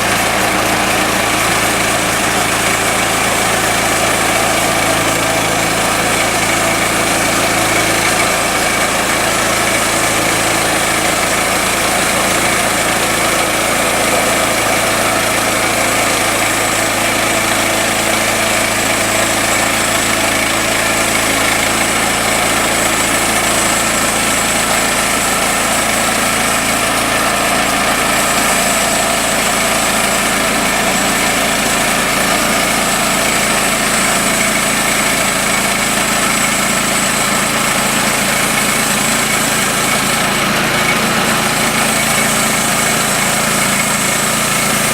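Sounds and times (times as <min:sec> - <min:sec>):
small gasoline engine running: 0:00.0 - 0:44.9.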